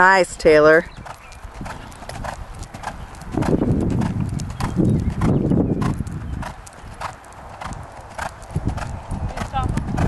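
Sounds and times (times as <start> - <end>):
horse hoofbeats: 0.5 - 10.0.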